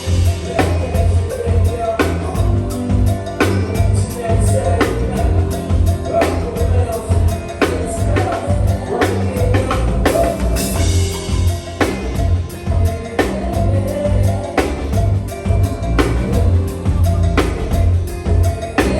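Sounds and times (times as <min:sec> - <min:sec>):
keyboard lines: 0:00.0 - 0:18.9
live band playing groove: 0:00.0 - 0:18.9.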